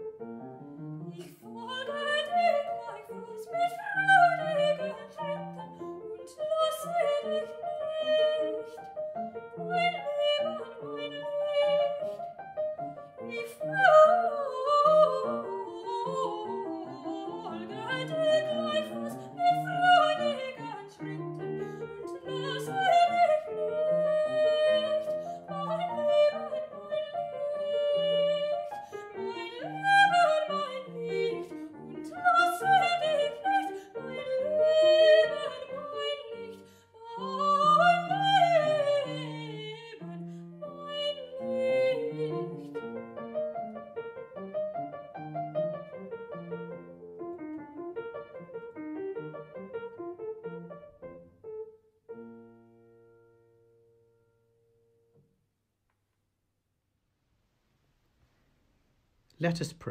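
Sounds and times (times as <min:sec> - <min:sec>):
piano accompaniment: 0:00.0 - 0:55.2.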